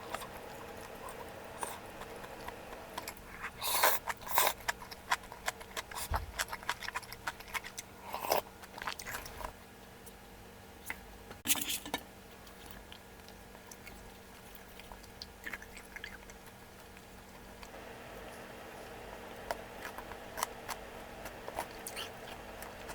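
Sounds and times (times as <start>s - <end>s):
chewing and biting food: 0.0s - 9.6s, 12.4s - 22.9s.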